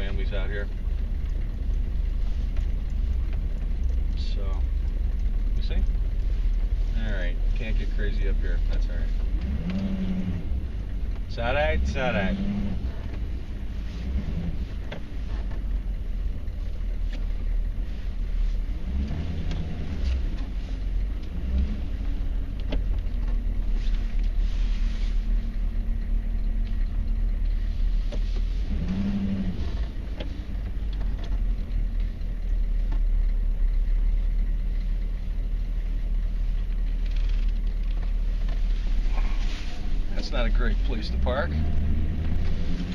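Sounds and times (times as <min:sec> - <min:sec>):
diesel truck engine rumbling: 0:00.0 - 0:42.9
road noise: 0:00.0 - 0:42.9.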